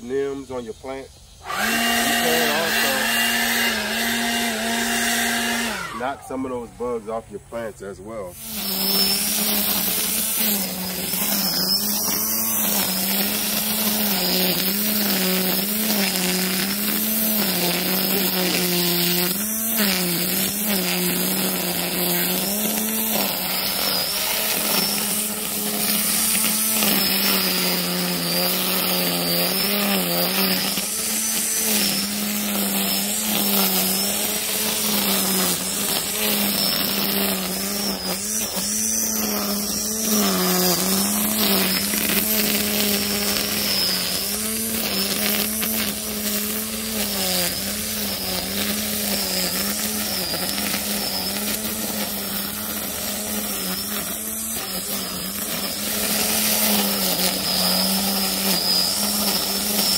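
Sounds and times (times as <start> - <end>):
string trimmer cutting grass: 0.0 - 59.9.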